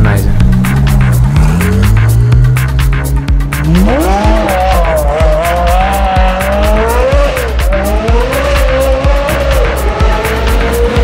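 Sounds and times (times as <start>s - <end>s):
electronic music with fast beat: 0.0s - 11.0s
supercar engine revving high: 0.0s - 11.0s.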